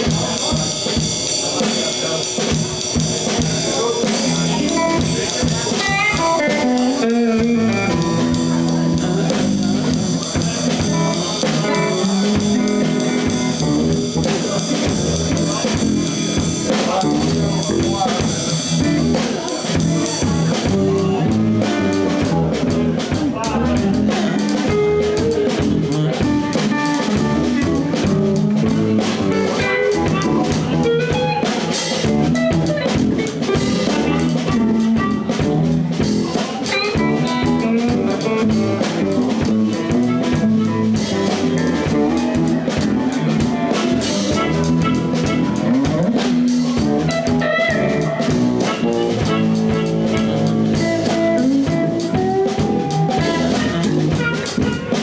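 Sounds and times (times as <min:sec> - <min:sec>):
bass guitar: 0:00.0 - 0:55.0
blues guitar: 0:00.0 - 0:55.0
drum kit: 0:00.0 - 0:55.0.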